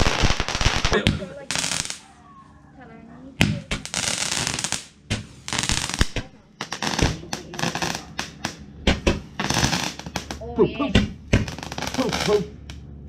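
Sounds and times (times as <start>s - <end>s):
firework crackles and pops: 0.0s - 2.0s, 3.4s - 12.8s
firework fountain hissing: 0.0s - 2.0s, 3.4s - 10.5s, 11.1s - 12.6s.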